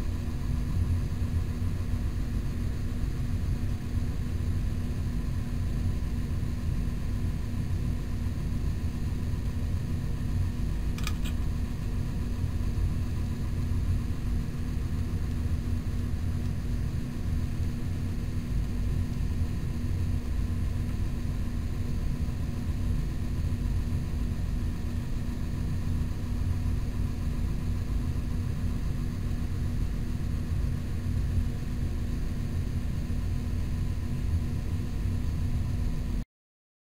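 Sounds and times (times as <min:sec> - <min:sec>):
low machine hum with hiss: 0:00.0 - 0:36.2.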